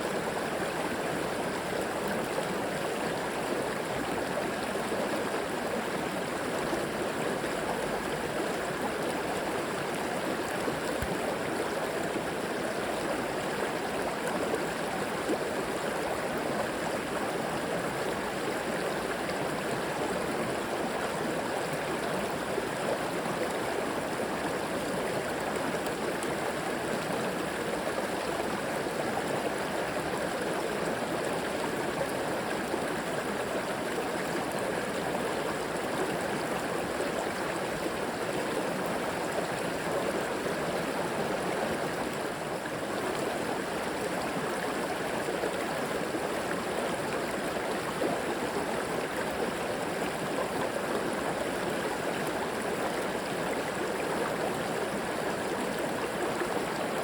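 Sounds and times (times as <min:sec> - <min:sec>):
river water gurgling over stones: 0:00.0 - 0:57.0.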